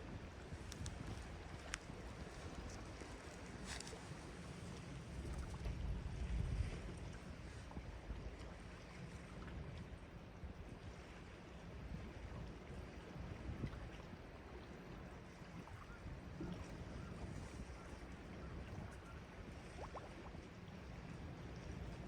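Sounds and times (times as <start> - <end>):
wind on microphone: 0.0 - 8.4, 11.8 - 22.0.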